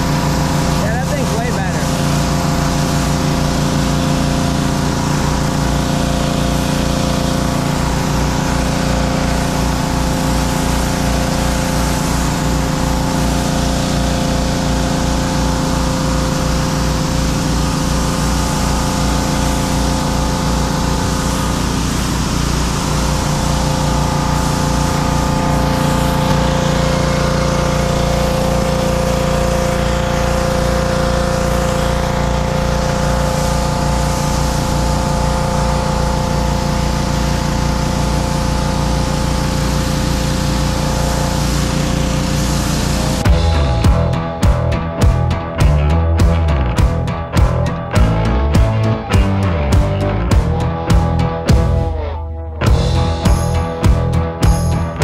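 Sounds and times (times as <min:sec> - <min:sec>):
water spraying onto concrete: 0:00.0 - 0:51.9
pressure washer engines running: 0:00.0 - 0:55.0.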